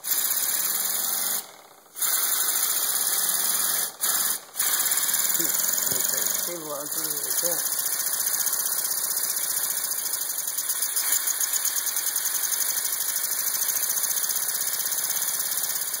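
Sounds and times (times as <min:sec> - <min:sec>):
model steam engine hissing puffs: 0:00.0 - 0:16.0.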